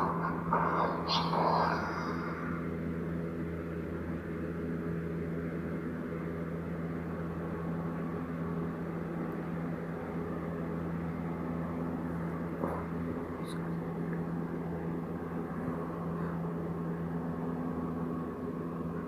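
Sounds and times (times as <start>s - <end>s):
low droning hum: 0.0s - 19.0s.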